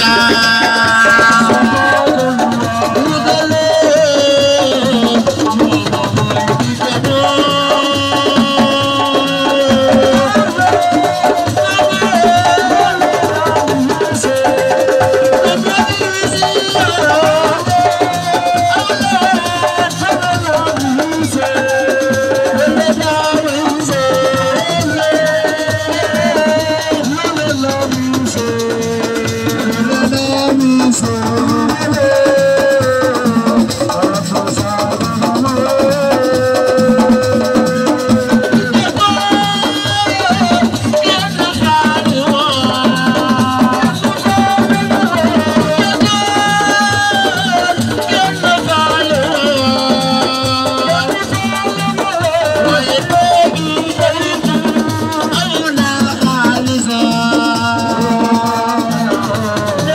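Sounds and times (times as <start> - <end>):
drums: 0.0 - 59.9
shaker rattling: 0.0 - 59.9.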